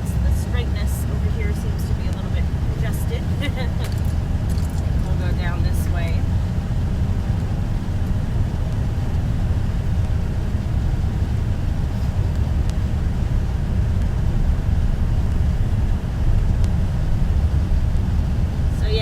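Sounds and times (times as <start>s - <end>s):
car engine and tyres: 0.0s - 19.0s
strong wind against car: 0.0s - 19.0s.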